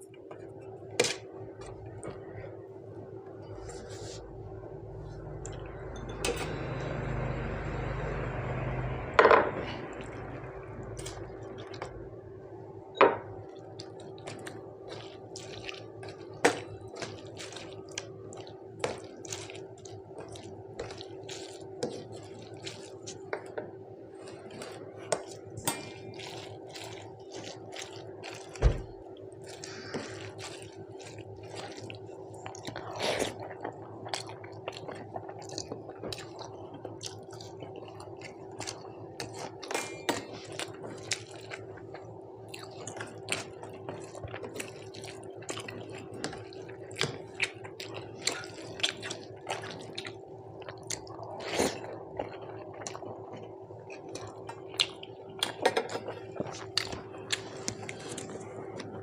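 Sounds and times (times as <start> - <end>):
wet eating and chewing: 9.6 - 12.4, 13.3 - 59.0.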